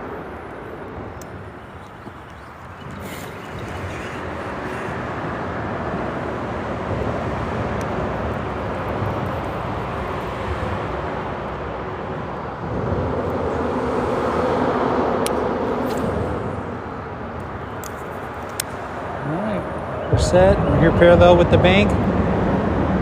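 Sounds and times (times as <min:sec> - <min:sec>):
freeway traffic rumble: 0:00.0 - 0:23.0.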